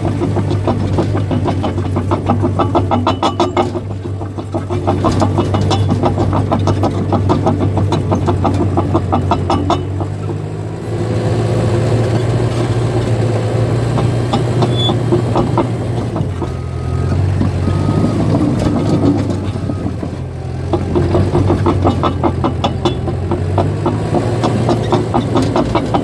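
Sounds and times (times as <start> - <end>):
bulldozer diesel engine running: 0.0 - 26.0
steel tracks clattering: 0.0 - 26.0.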